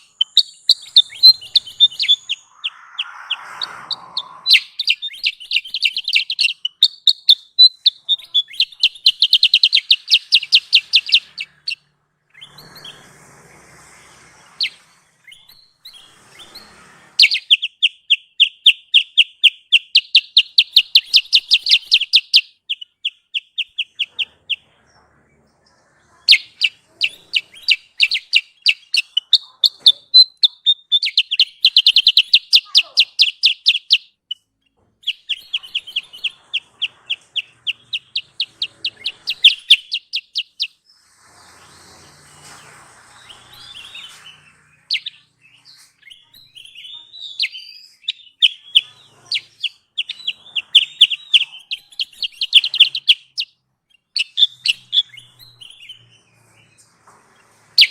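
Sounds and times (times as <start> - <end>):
bird chirping high notes: 0.0 - 13.0, 17.2 - 41.0, 41.6 - 56.9.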